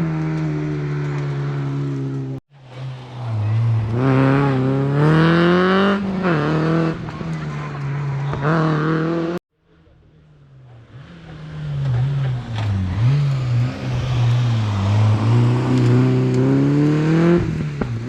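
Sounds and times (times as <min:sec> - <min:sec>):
rally car engine accelerating: 0:00.0 - 0:09.4, 0:10.1 - 0:18.0.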